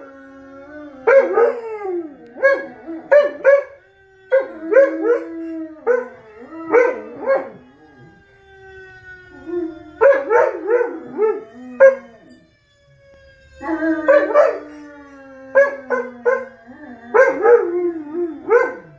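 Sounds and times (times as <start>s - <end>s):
dog howling: 0.0s - 8.3s, 9.3s - 12.3s, 13.6s - 18.9s.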